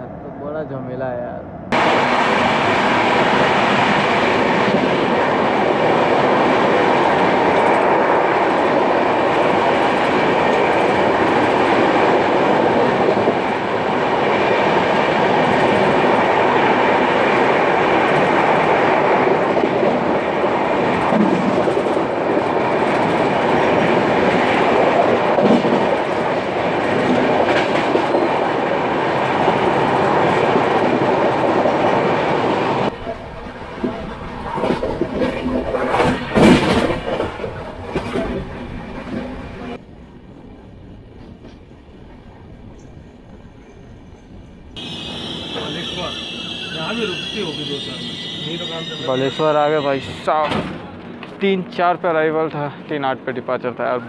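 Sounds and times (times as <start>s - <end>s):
train wheels on rails: 1.7s - 52.8s.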